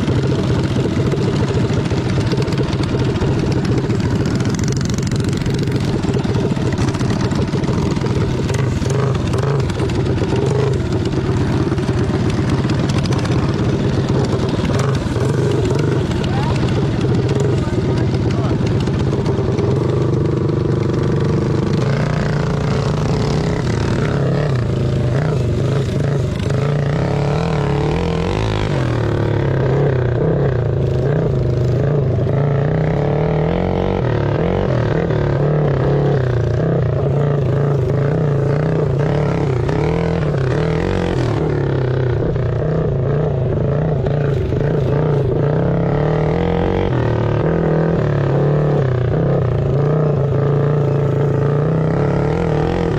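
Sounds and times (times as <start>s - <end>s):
mini bike engines revving: 0.0s - 52.9s.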